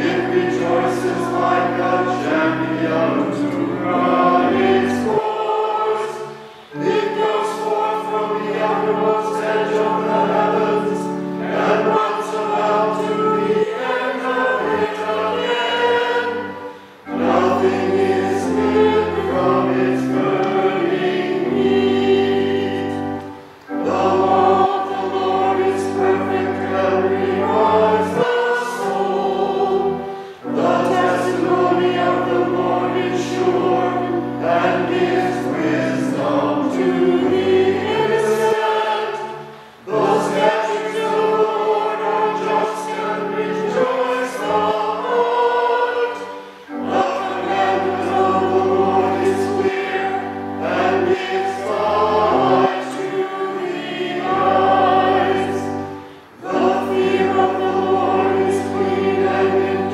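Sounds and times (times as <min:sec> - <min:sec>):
choir singing slow sacred piece: 0:00.0 - 0:59.9.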